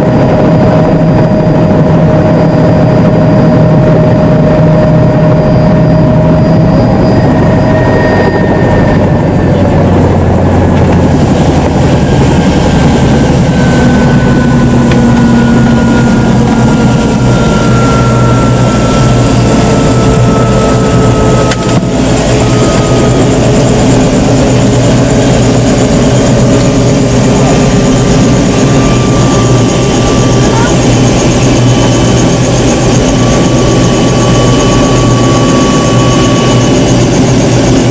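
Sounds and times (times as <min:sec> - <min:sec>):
helicopter engine and rotor: 0:00.0 - 0:37.9
faint falling whine: 0:00.1 - 0:37.9.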